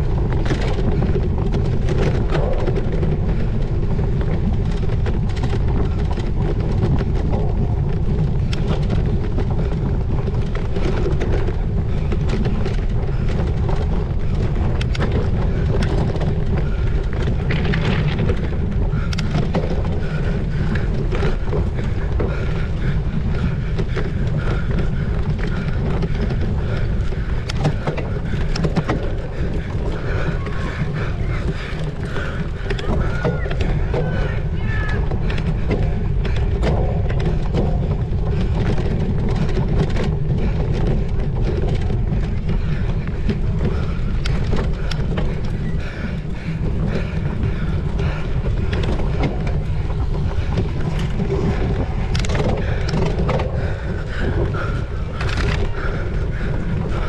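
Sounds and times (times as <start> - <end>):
bike clicks and rattles: 0.0 - 57.0
wind rushing over microphone: 0.0 - 57.0.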